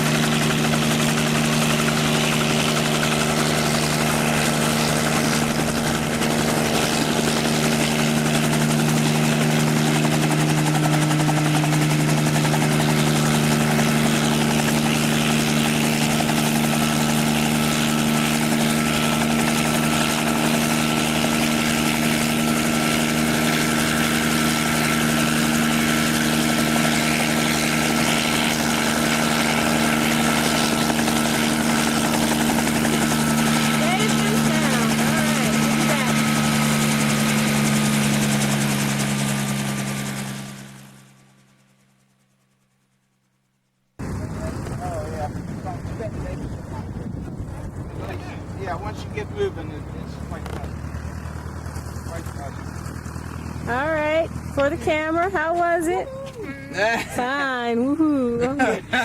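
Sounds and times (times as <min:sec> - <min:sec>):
helicopter engine and rotor: 0:00.0 - 0:42.3, 0:44.0 - 0:59.0.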